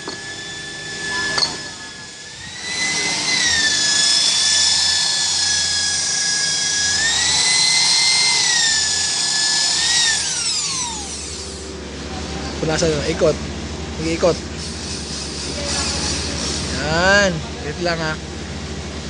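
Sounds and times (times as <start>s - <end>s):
power tool whining: 0.0s - 13.4s, 14.0s - 18.2s.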